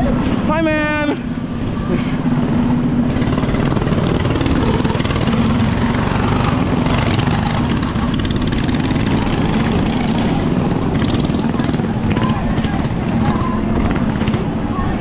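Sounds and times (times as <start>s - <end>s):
mini-bike engines running: 0.0s - 15.0s.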